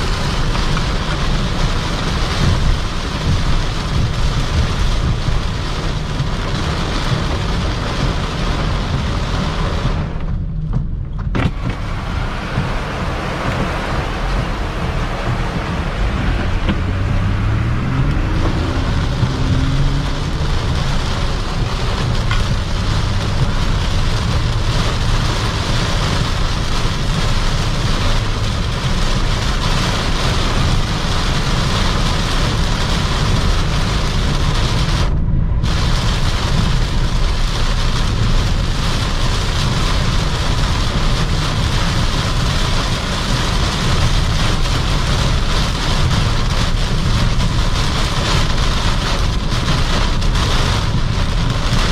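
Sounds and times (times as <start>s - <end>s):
car engine: 0.0s - 51.9s
heavy rain on car: 0.0s - 51.9s
road noise: 0.0s - 51.9s.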